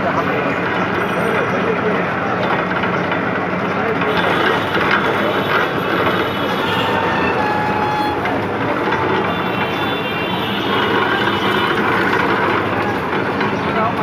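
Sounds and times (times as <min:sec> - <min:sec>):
juice machine rollers crushing cane: 0:02.4 - 0:14.0.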